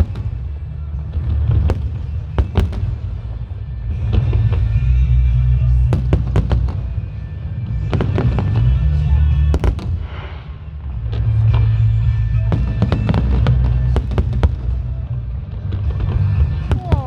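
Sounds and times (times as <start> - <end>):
fireworks booming: 0.0 - 17.0
fireworks cracking bangs: 0.0 - 17.0.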